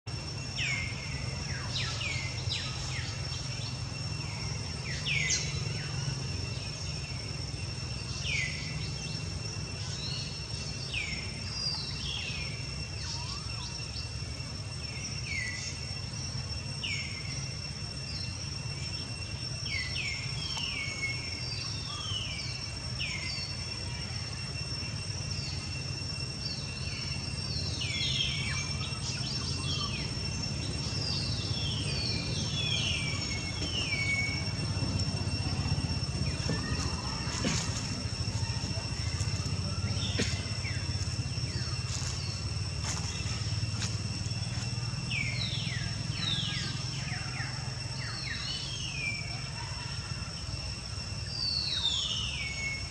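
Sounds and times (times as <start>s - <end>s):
high-pitched insect drone: 0.1s - 52.9s.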